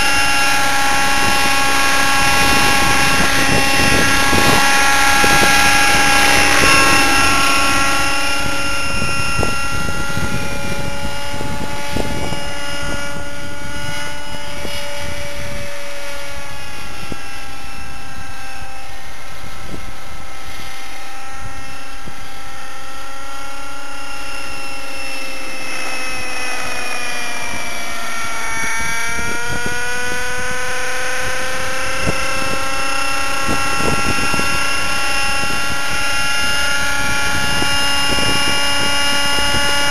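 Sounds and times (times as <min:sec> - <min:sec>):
model helicopter engine: 0:00.0 - 0:39.9
rotor noise: 0:00.0 - 0:39.9.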